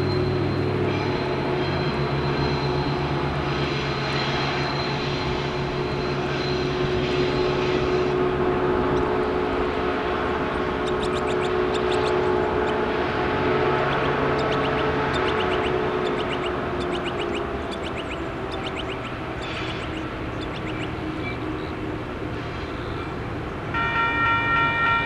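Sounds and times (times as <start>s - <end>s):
distant locomotive engine drone: 0.0s - 25.0s.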